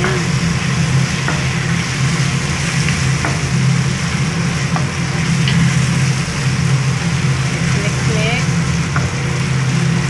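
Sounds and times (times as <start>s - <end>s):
food sizzling in a pot: 0.0s - 10.0s
kitchen exhaust fan drone: 0.0s - 10.0s.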